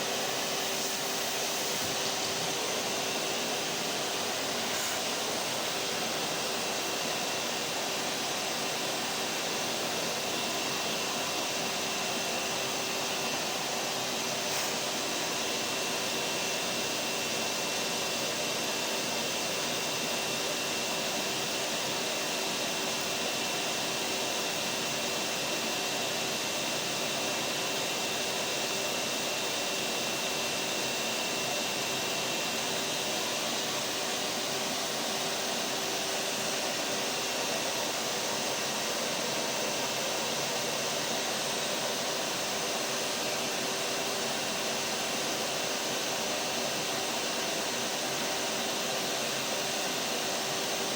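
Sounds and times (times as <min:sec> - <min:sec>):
vacuum cleaner motor running: 0:00.0 - 0:50.9.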